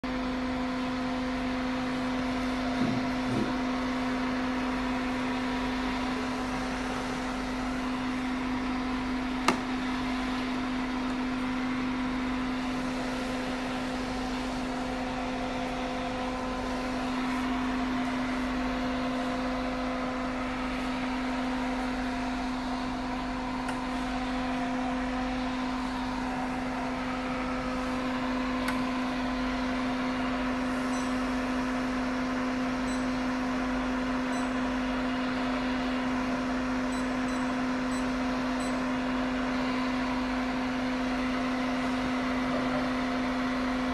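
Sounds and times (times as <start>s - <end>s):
machine humming: 0.1s - 43.9s.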